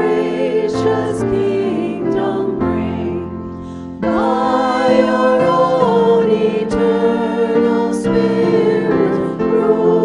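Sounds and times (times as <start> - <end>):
congregation singing a hymn: 0.0 - 10.0
instrumental accompaniment: 0.0 - 10.0.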